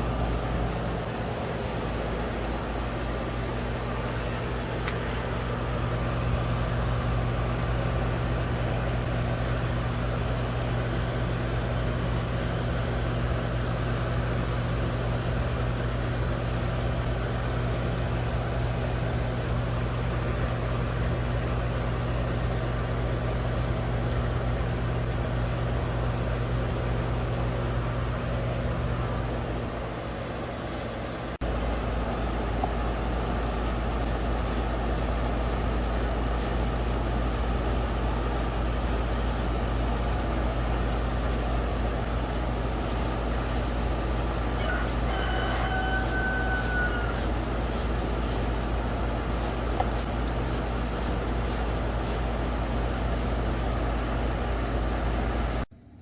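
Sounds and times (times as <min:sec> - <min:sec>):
air conditioner unit humming: 0:00.0 - 0:56.0
fan air rushing: 0:00.0 - 0:56.0.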